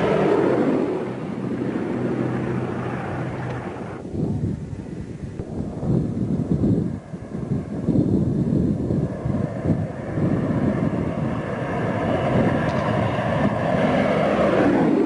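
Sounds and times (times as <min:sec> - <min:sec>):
aircraft radial engines droning: 0:00.0 - 0:15.0
wind buffeting microphone: 0:00.0 - 0:15.0.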